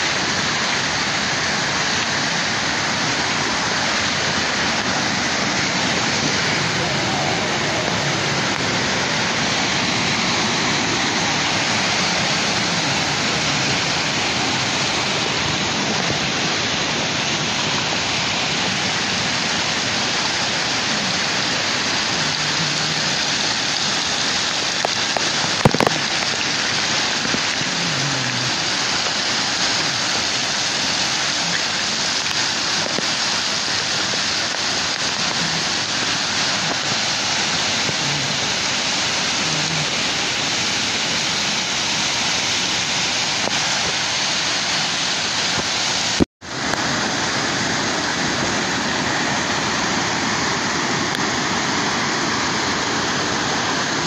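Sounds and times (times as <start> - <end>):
waterfall splashing over rocks: 0.0 - 54.0.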